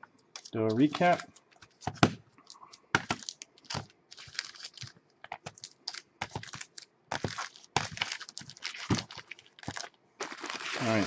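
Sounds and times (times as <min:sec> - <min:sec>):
packaging rustling: 0:00.4 - 0:11.0.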